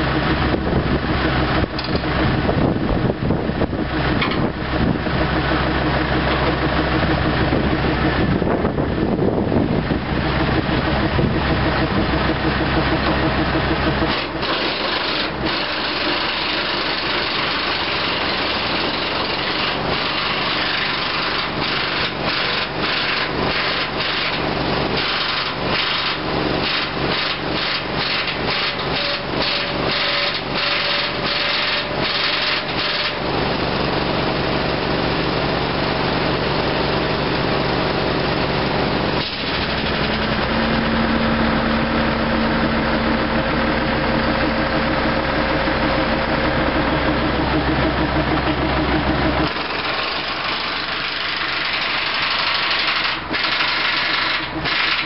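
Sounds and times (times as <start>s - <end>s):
heavy diesel machinery running: 0.0s - 55.0s
steady hum or whine: 0.0s - 55.0s.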